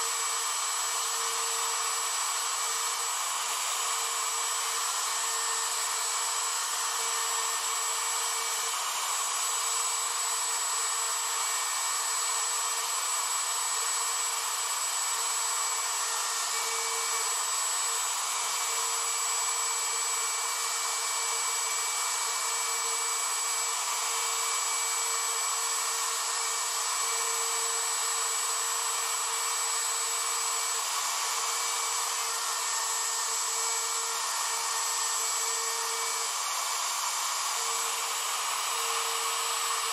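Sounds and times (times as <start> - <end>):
cnc router whirring: 0.0 - 39.9.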